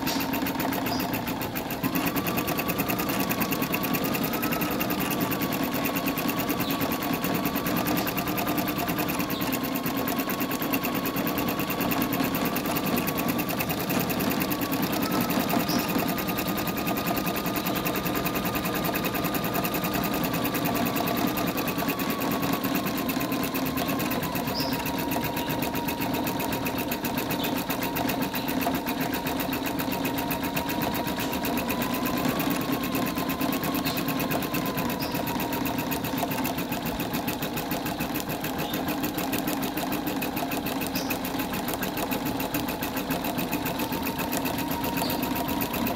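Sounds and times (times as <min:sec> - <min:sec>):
embroidery machine stitching: 0:00.0 - 0:45.9.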